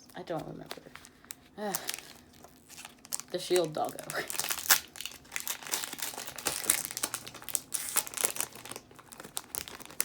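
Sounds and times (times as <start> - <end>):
foil wrapper crinkling: 0.1 - 10.0.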